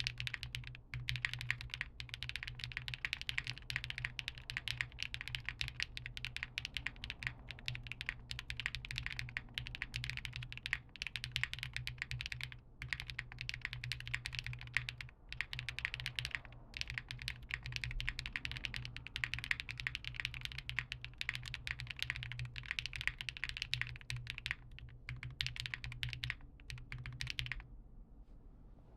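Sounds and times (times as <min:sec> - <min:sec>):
fast typing on mechanical keyboard: 0:00.0 - 0:27.7.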